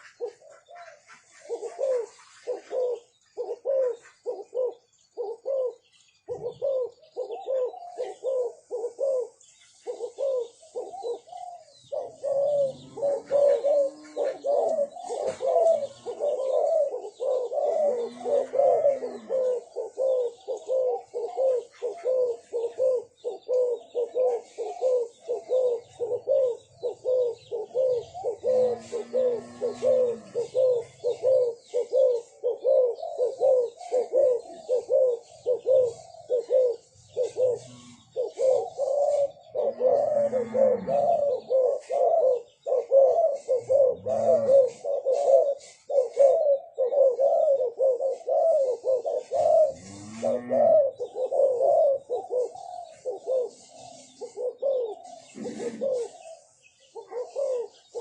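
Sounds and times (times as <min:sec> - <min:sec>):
doves cooing: 0:00.0 - 0:58.0.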